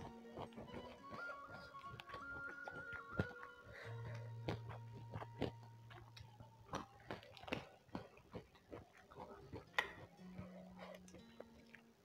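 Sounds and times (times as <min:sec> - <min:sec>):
faint low hum: 0:00.0 - 0:12.0
person chewing and biting food: 0:00.0 - 0:12.0.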